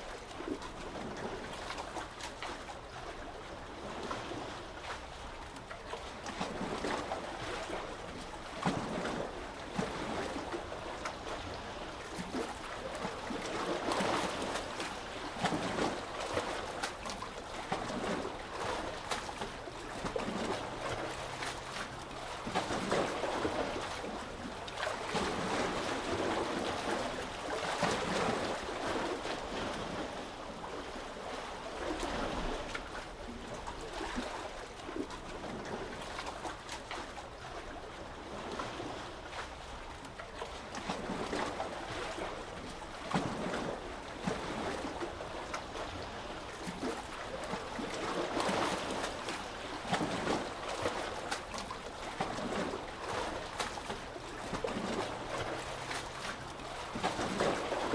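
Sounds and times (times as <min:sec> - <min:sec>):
small sea waves lapping: 0:00.0 - 0:57.9
trickling water: 0:00.0 - 0:57.9.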